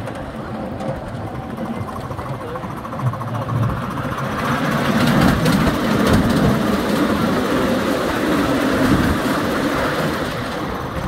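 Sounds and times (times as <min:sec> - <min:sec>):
miniature steam train running: 0:00.0 - 0:11.0
wheels clattering on rail: 0:00.0 - 0:11.0.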